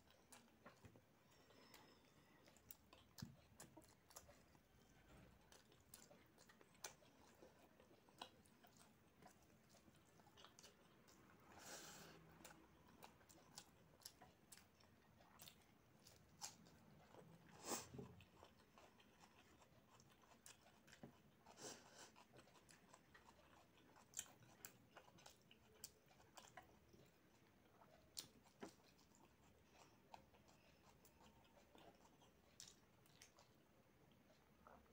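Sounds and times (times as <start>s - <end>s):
close-miked chewing: 0.0s - 34.9s.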